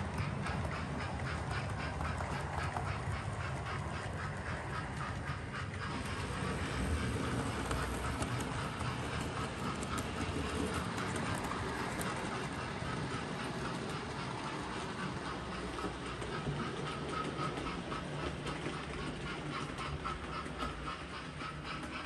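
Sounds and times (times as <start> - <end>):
model train running rumble: 0.0 - 22.0
wheels clicking on rails: 0.0 - 22.0.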